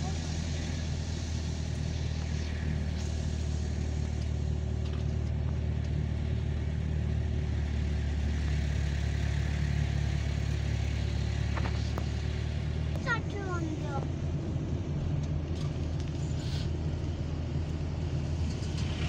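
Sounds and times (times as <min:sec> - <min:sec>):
car engine and tyre hum: 0:00.0 - 0:19.0.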